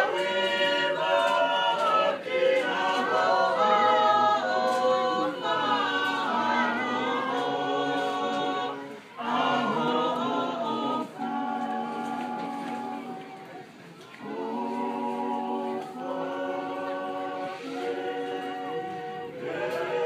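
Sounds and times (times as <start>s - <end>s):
group singing unaccompanied: 0.0s - 20.0s.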